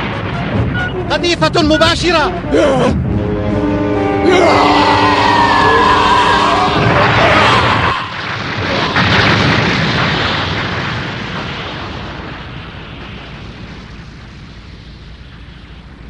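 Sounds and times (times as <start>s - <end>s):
explosion blast with rumble: 0.0s - 3.2s, 5.3s - 16.0s.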